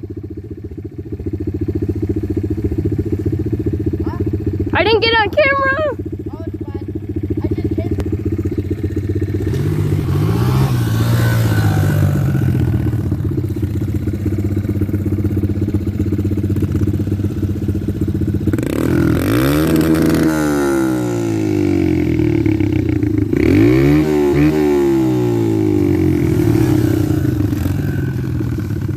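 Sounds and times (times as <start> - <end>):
dirt bike engine revving: 1.6 - 28.9.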